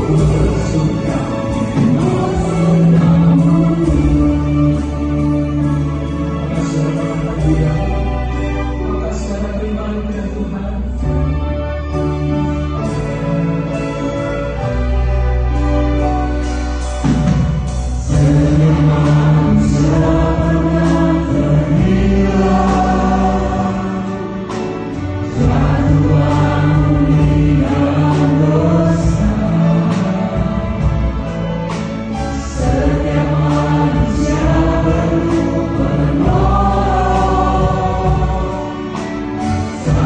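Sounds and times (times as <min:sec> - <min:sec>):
group of singers: 0:00.0 - 0:40.0
guitars: 0:00.0 - 0:40.0
piano: 0:00.0 - 0:40.0
violins and cellos: 0:00.0 - 0:40.0.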